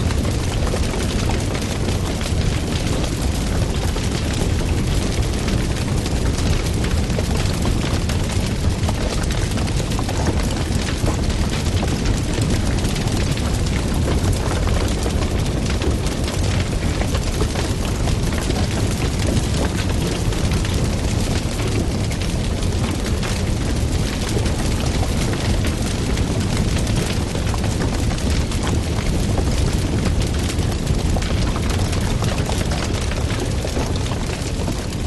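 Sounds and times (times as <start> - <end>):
wood fire roaring and crackling: 0.0 - 35.0.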